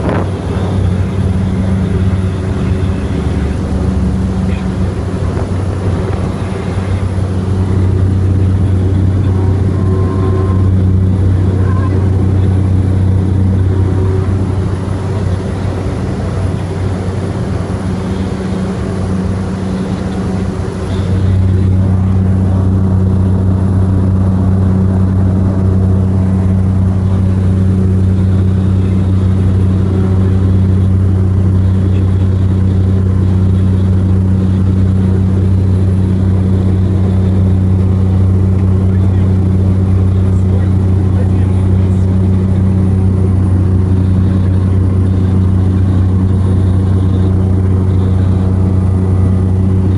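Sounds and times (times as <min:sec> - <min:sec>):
turboprop engine and propeller drone: 0:00.0 - 0:49.9.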